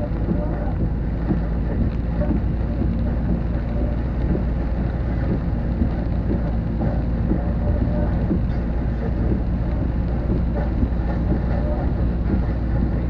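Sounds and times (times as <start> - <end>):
rain pattering: 0.0 - 13.0
wind rumble on microphone: 0.0 - 13.0.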